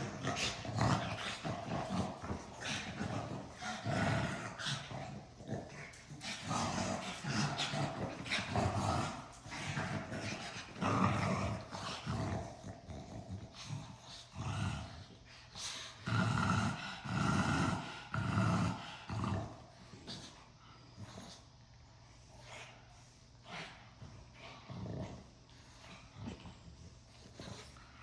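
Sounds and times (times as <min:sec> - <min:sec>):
dogs growling: 0:00.0 - 0:28.0
dogs snorting breaths: 0:00.0 - 0:28.0.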